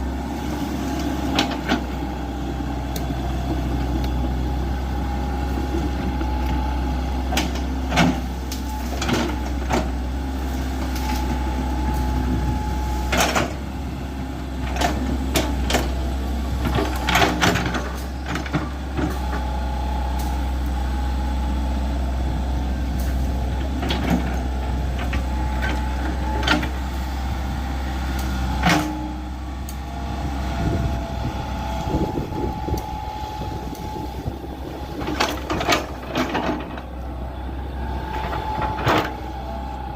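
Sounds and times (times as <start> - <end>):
excavator diesel engine whining: 0.0 - 39.9.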